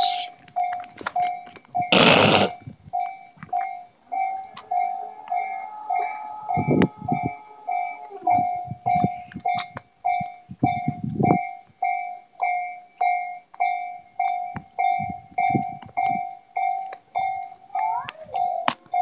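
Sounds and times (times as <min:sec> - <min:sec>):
level crossing bell ringing: 0:00.6 - 0:19.0.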